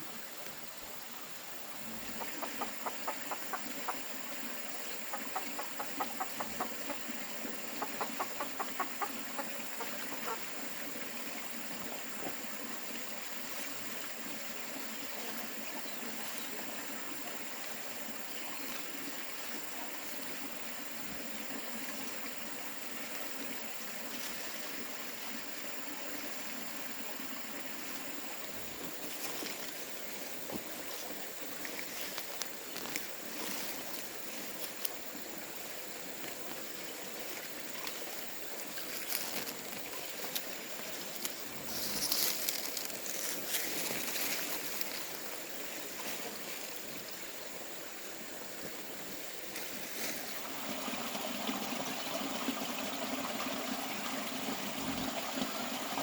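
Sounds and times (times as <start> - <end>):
flowing water: 1.3 - 56.0.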